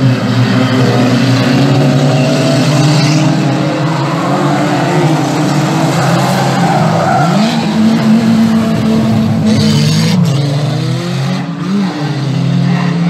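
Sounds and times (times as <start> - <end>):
engine revving: 0.0 - 13.0
racing car engines: 0.0 - 13.0.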